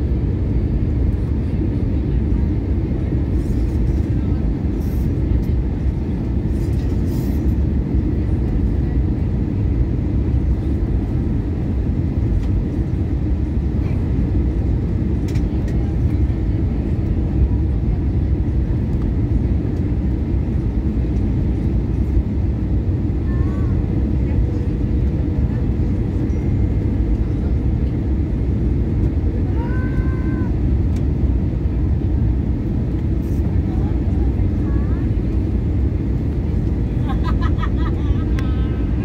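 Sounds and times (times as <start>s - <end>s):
airplane cabin drone: 0.0s - 39.0s.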